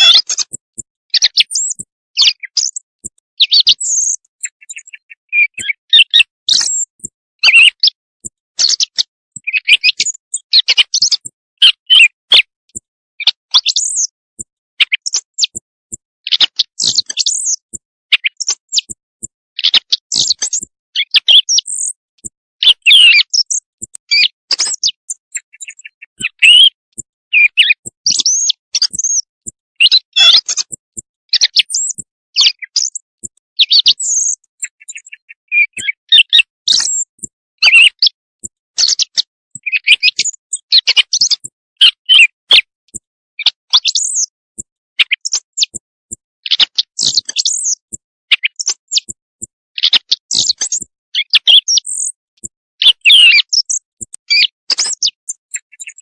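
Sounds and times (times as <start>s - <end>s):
recorded bird chirps: 0.0s - 56.0s.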